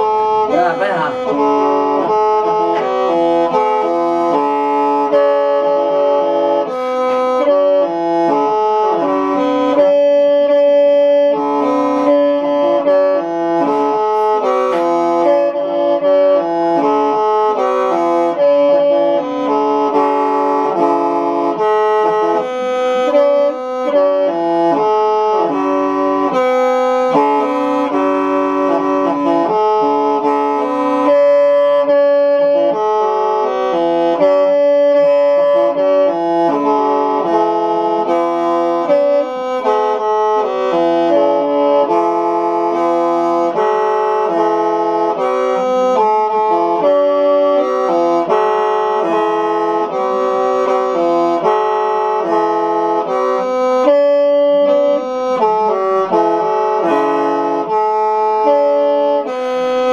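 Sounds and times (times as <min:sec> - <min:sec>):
free-reed mouth organ chords: 0:00.0 - 0:59.9.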